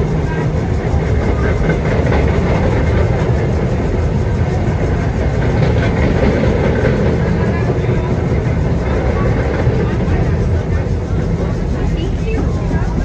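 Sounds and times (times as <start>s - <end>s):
subway cars rolling past: 0.0s - 13.0s
wheels clicking over rail joints: 0.0s - 13.0s.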